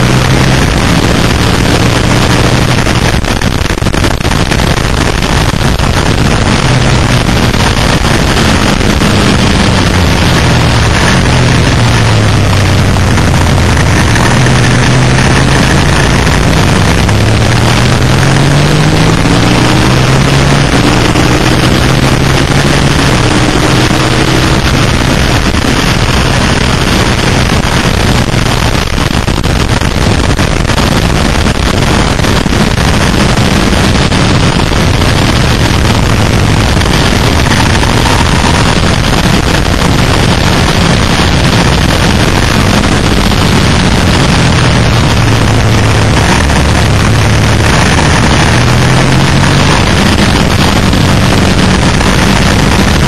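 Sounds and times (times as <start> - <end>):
motorcycle engine accelerating: 0.0 - 53.0
wind rush on microphone: 0.0 - 53.0.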